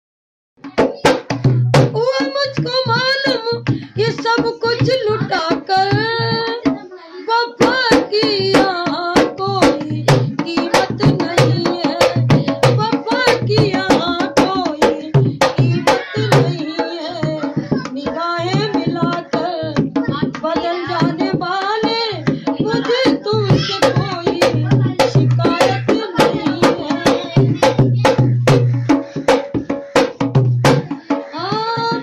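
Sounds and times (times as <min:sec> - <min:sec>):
hand drum playing: 0:00.6 - 0:06.9, 0:07.6 - 0:32.0
woman singing: 0:00.7 - 0:29.0, 0:30.7 - 0:32.0.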